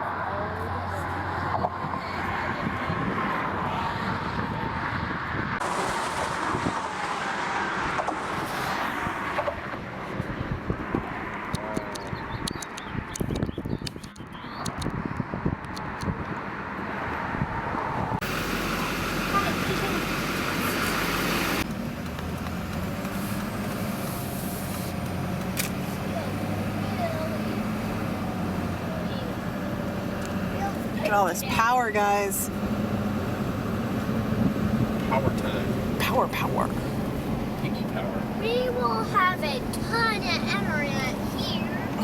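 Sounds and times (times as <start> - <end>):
car traffic passing: 0.0 - 42.0.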